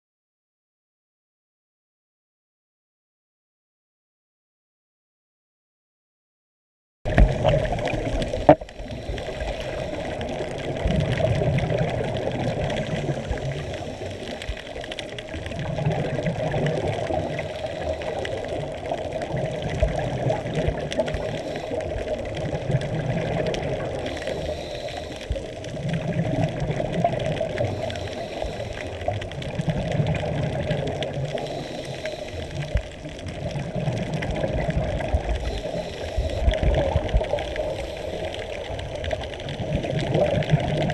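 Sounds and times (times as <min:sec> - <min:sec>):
diver exhaling bubbles: 0:07.1 - 0:40.9
muffled water hiss: 0:07.1 - 0:40.9.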